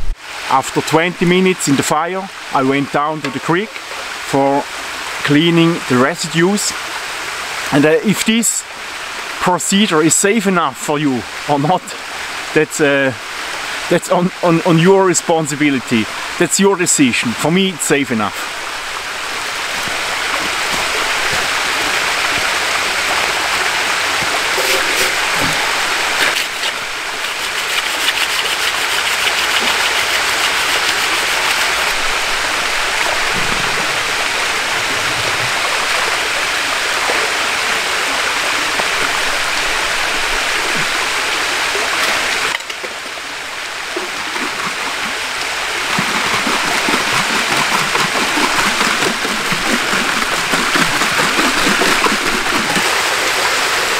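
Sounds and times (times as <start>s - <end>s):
creek water rushing: 0.0s - 53.9s.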